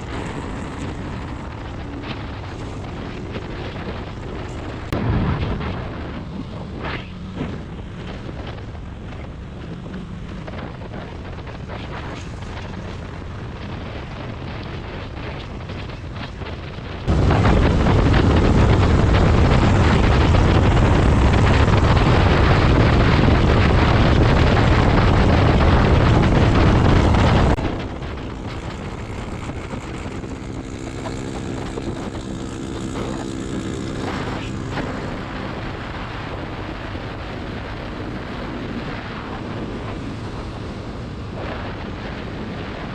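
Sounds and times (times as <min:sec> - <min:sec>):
motorcycle engine running: 0:00.0 - 0:42.8
wind noise rushing: 0:00.0 - 0:42.9.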